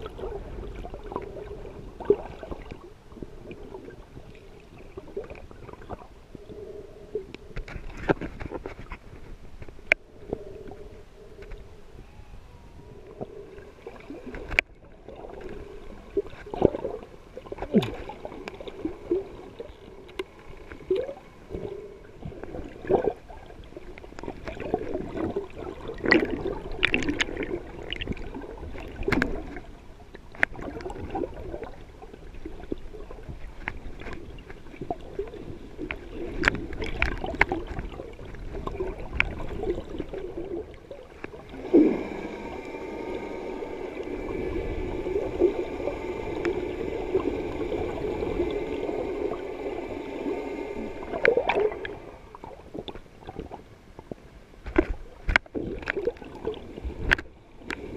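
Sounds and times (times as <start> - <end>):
underwater gurgling and sloshing: 0.0 - 57.9.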